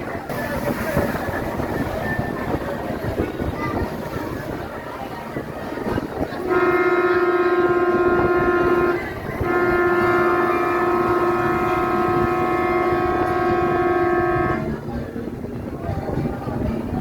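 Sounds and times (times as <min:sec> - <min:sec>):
ship's horn blasts: 0:00.2 - 0:16.2.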